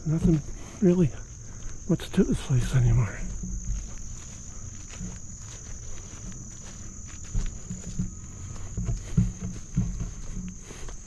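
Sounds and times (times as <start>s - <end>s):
footsteps thudding: 0.0s - 1.9s, 3.0s - 11.0s
insect chorus: 0.0s - 11.0s.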